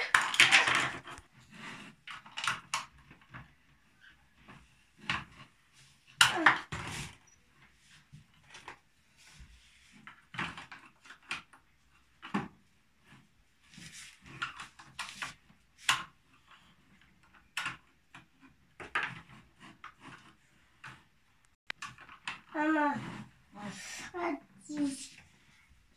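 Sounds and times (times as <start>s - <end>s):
plastic toys clicking and knocking: 0.0s - 9.0s, 9.7s - 21.1s, 21.7s - 23.4s.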